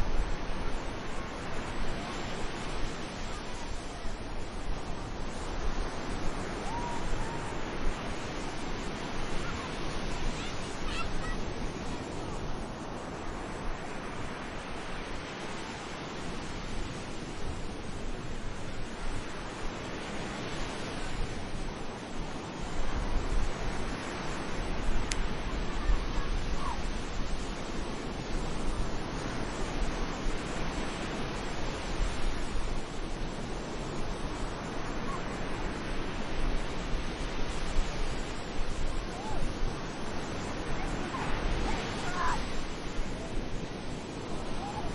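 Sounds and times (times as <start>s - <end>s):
sea waves on shore: 0.0s - 44.9s
wind noise on microphone: 0.0s - 44.9s.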